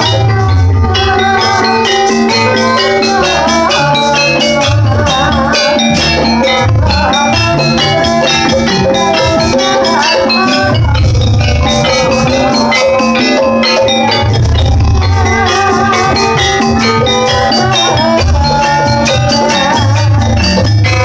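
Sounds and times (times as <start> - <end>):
hand drums: 0.0 - 21.0
metallophones and gongs: 0.0 - 21.0
wavering melody line: 0.0 - 21.0.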